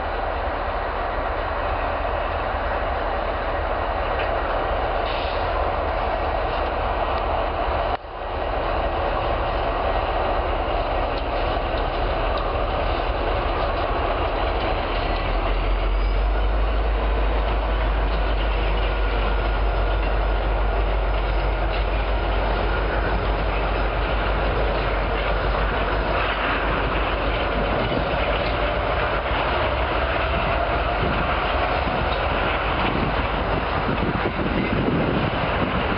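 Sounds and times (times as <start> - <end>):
freight train rumbling: 0.0 - 35.9
wheels clattering on rails: 0.0 - 35.9.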